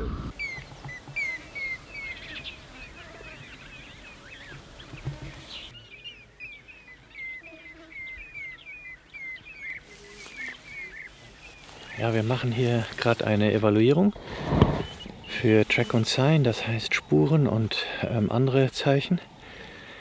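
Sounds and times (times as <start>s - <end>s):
other bird calls: 0.0s - 18.2s
background hiss: 0.0s - 20.0s.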